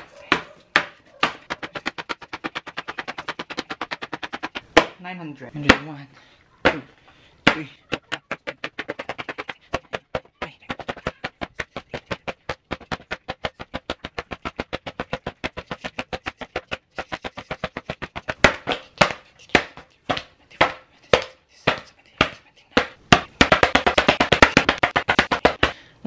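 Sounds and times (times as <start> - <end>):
hand slapping paper: 0.0 - 5.0, 6.6 - 25.9.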